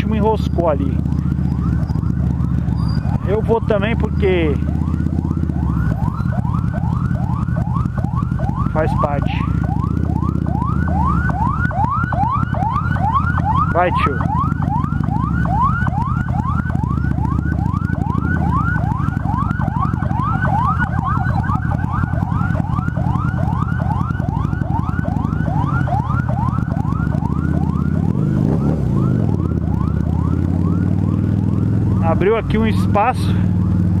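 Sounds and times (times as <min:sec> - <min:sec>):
ambulance siren: 0:00.0 - 0:34.0
motorcycle engine running: 0:00.0 - 0:34.0.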